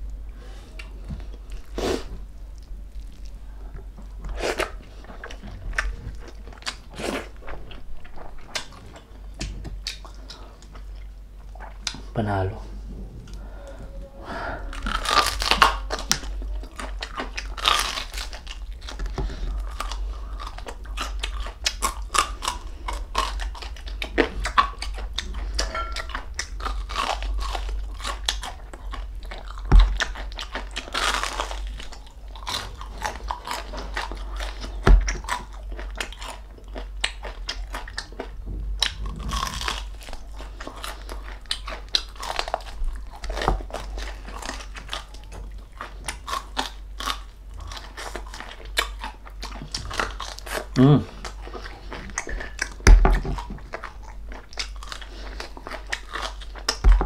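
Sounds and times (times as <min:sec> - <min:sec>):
crunchy chewing: 0:00.0 - 0:12.1, 0:14.6 - 0:57.0.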